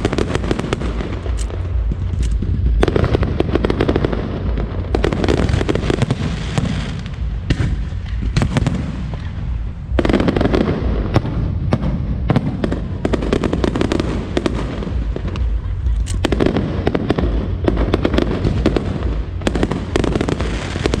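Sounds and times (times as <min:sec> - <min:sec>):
fireworks crackling bangs: 0:00.0 - 0:21.0.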